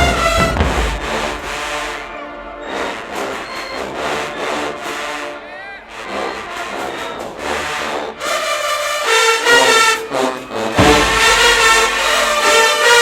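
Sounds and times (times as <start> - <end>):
marching band brass chords: 0.0 - 13.0
pulsing band sound: 0.0 - 13.0
voices: 0.0 - 13.0.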